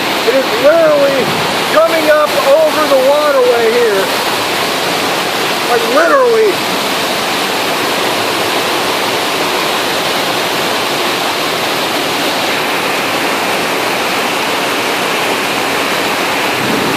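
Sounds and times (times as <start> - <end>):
floodwater rushing: 0.0 - 16.9.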